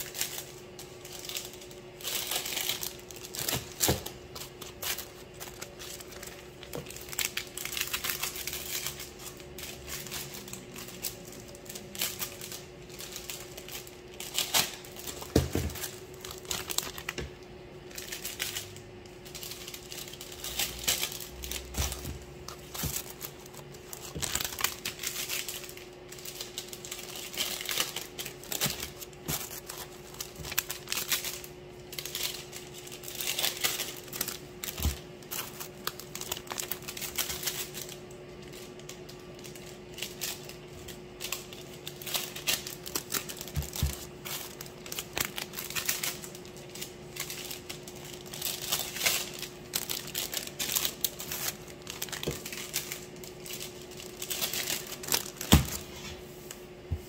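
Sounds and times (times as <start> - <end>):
plastic bags crinkling: 0.0 - 56.8.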